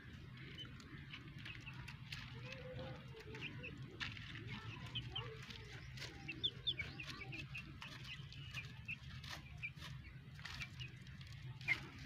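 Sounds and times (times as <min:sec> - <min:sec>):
chicks peeping: 0:00.0 - 0:12.0
hens clucking: 0:00.0 - 0:12.0.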